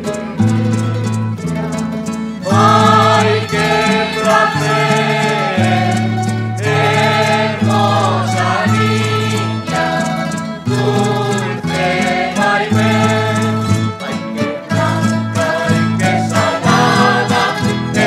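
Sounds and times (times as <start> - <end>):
string ensemble playing: 0.0 - 18.0
mixed choir singing: 2.4 - 18.0.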